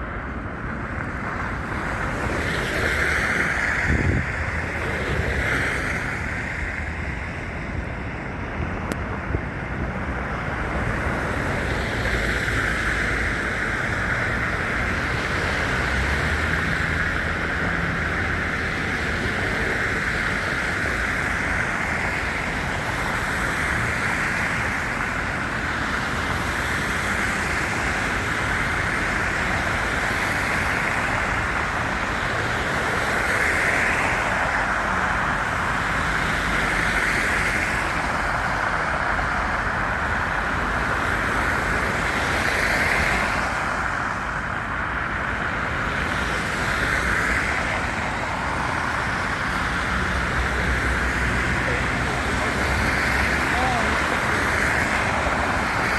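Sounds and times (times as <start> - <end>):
road traffic hiss: 0.0 - 55.9
wind: 0.0 - 55.9.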